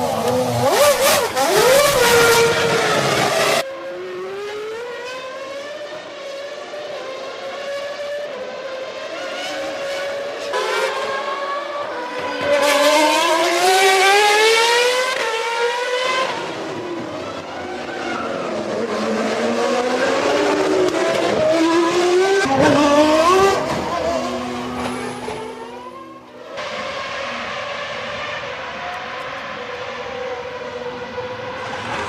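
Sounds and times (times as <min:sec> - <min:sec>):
racing car engines at high revs: 0:00.0 - 0:32.0.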